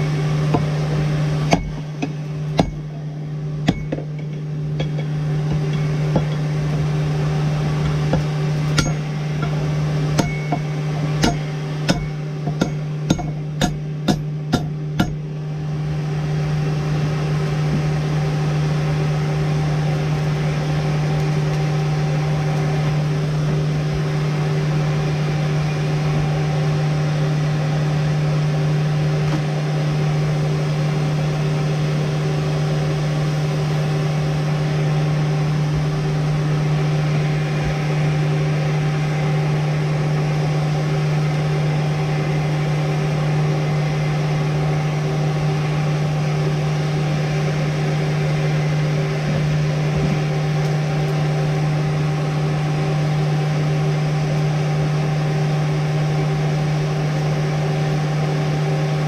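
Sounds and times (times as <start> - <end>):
forge mechanical hum: 0.0 - 59.0.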